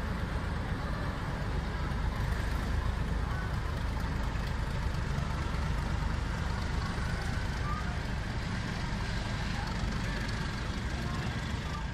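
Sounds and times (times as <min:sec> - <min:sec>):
diesel locomotive engine rumbling: 0:00.0 - 0:11.9.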